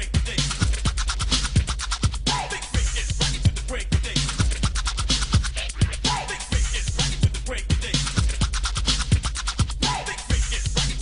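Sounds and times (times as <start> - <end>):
person rapping: 0.0 - 1.2, 2.2 - 8.8, 9.7 - 11.0
hip hop drum beat: 0.0 - 11.0.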